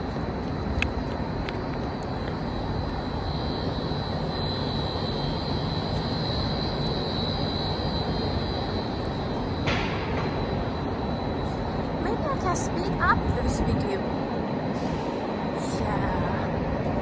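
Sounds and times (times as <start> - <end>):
high machine whine: 0.0 - 17.0
low machine hum: 0.0 - 17.0
machinery rumble: 0.0 - 17.0.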